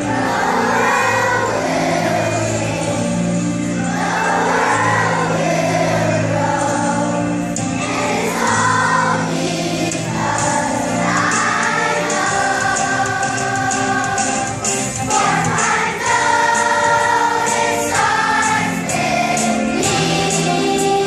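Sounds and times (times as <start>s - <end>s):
choir singing with accompaniment: 0.0s - 21.0s.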